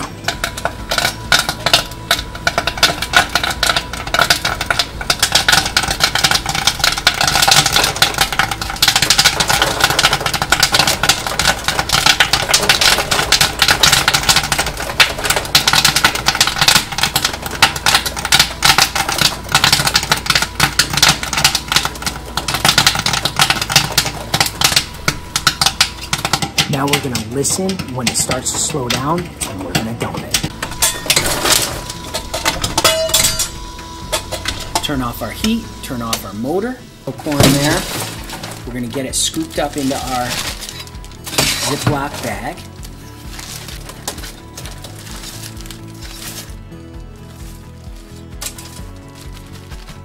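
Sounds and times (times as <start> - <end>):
popcorn popping: 0.0 - 50.0.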